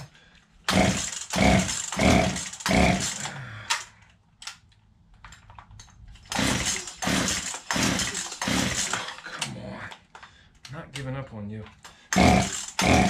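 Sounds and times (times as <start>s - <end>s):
chainsaw starter cord pulls: 0.7s - 4.6s, 5.4s - 11.1s, 11.7s - 13.0s.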